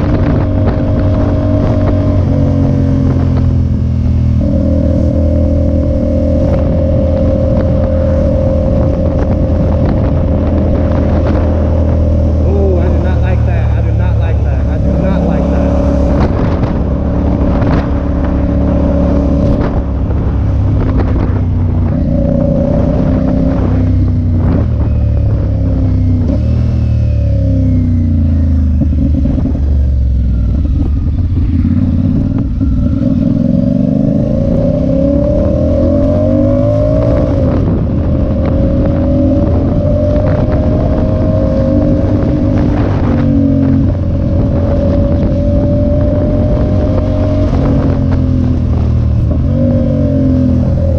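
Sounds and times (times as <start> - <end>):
motorcycle engine revving: 0.0 - 50.9
wind rumble on microphone: 0.0 - 50.9.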